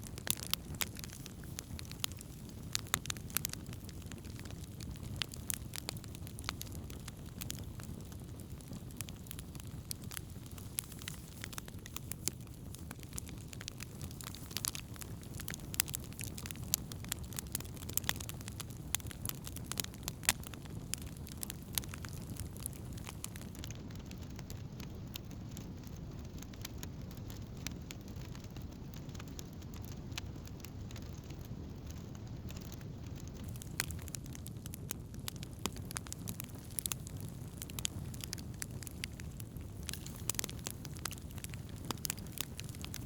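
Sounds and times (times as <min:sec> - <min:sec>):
fire crackling and popping: 0:00.0 - 0:43.0
rush of campfire flames: 0:00.0 - 0:43.0.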